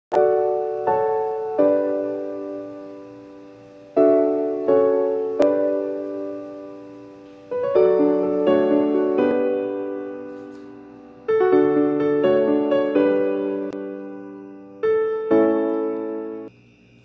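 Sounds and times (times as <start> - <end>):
slow piano chords: 0.1 - 16.5.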